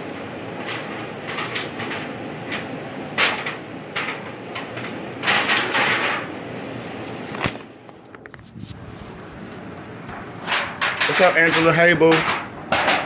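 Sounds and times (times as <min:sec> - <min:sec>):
exhaust hood fan rushing: 0:00.0 - 0:13.0
foil pans rustling and scraping: 0:00.0 - 0:13.0.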